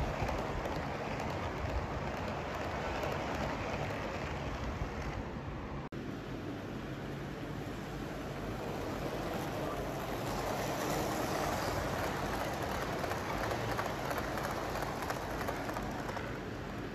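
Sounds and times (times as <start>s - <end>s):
model train wheels rumbling on rail: 0.0s - 5.9s, 7.6s - 16.9s.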